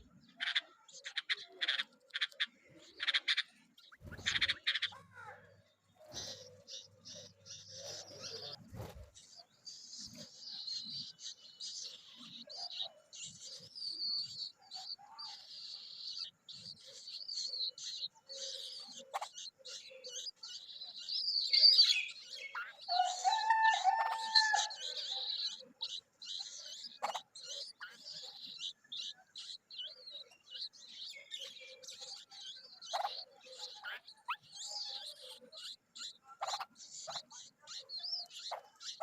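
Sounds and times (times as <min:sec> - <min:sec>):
young birds chirping: 0:00.0 - 0:39.0.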